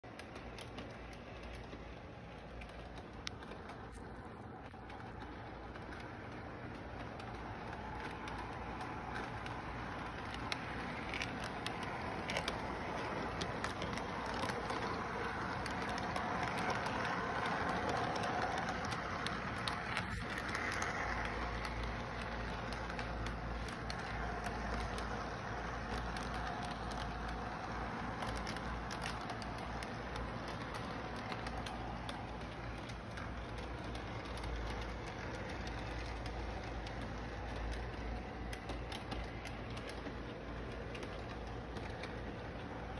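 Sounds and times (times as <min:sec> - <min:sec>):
model train motor and wheels: 0:00.0 - 0:42.9
wheels clicking over track joints: 0:00.0 - 0:42.9.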